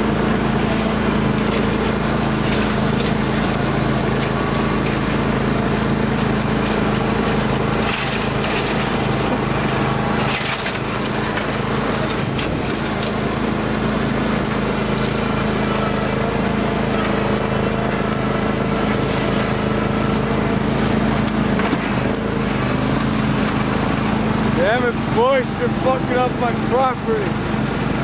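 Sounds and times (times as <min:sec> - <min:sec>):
riding lawn mower engine running: 0:00.0 - 0:28.0.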